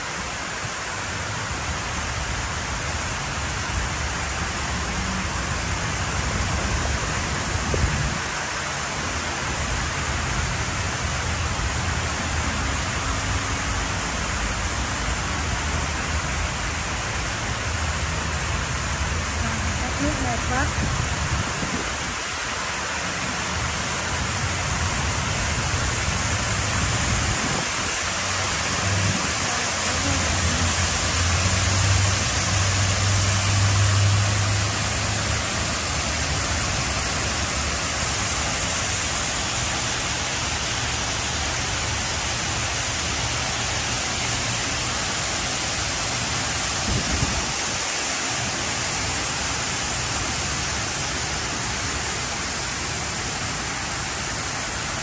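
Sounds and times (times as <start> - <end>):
water pouring down a wall: 0.0 - 55.0.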